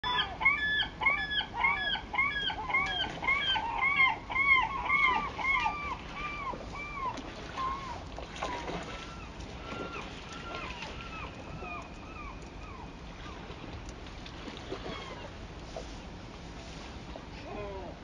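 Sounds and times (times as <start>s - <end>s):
bird calling: 0.0s - 13.7s, 14.6s - 15.4s.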